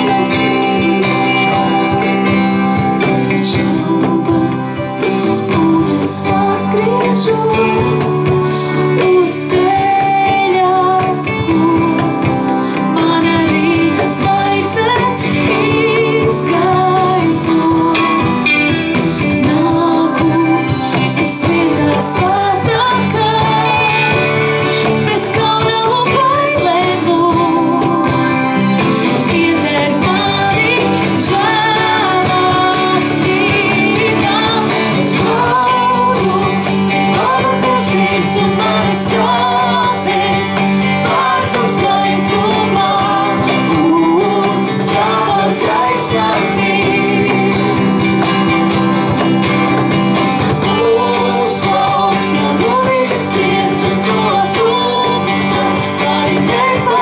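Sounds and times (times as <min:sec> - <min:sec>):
woman singing: 0:00.0 - 0:57.0
worship band playing: 0:00.0 - 0:57.0.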